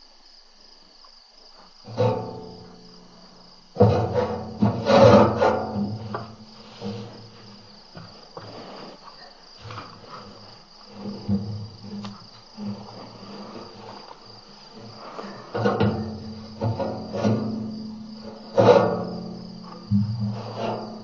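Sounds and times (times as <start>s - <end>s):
night insects chirping: 0.0s - 21.0s
low thumps and rustles: 1.5s - 21.0s.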